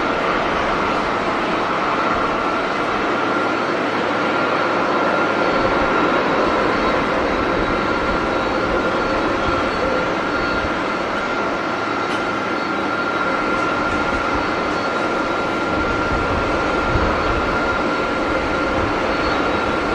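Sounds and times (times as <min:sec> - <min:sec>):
jet engines whining: 0:00.0 - 0:19.9.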